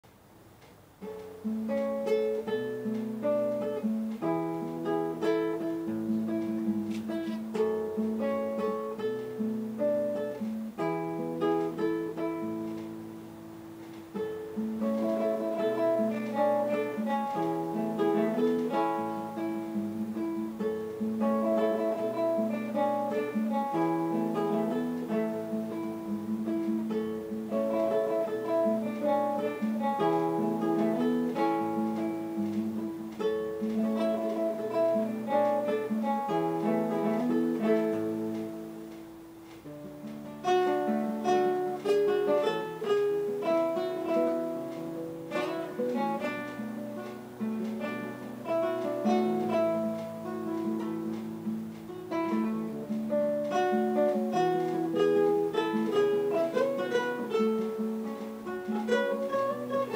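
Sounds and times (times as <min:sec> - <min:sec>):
acoustic guitar duet: 0:00.0 - 0:59.9.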